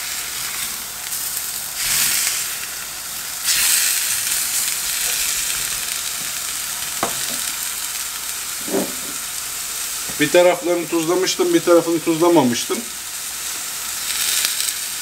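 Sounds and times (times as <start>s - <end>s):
steaks sizzling in grill pan: 0.0s - 15.0s.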